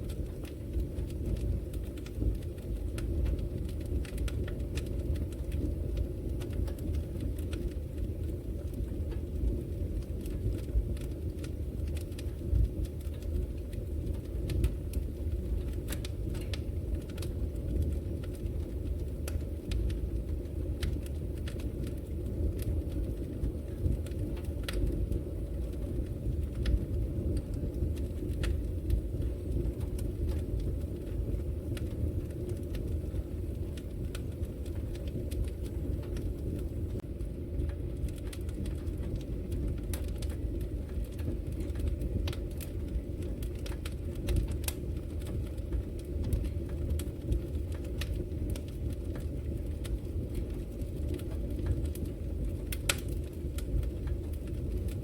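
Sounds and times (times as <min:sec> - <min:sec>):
low rush of burning logs: 0:00.0 - 0:55.0
wood fire crackling and popping: 0:00.0 - 0:55.0.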